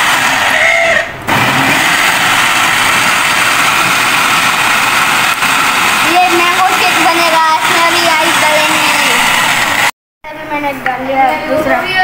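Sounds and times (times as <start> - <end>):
electric blender motor whirr: 0.0 - 9.9.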